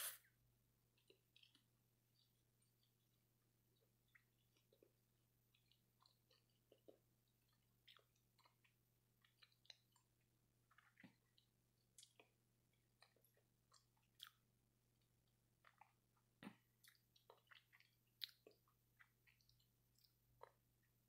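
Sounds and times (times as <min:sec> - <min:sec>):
chewing with mouth clicks: 0:00.9 - 0:21.0.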